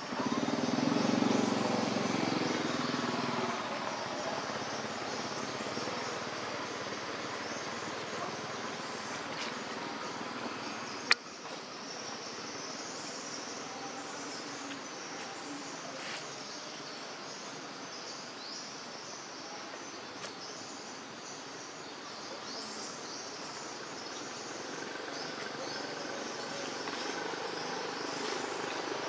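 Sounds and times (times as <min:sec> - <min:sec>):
forest background hiss: 0:00.0 - 0:29.0
insects chirring: 0:00.0 - 0:29.0.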